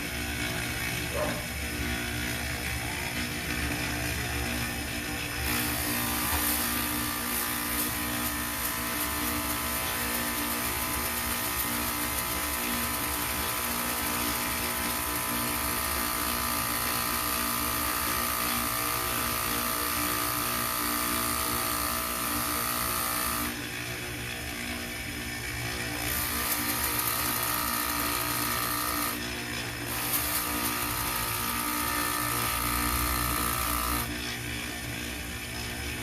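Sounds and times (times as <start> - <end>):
small electric motor whining: 0.0 - 36.0.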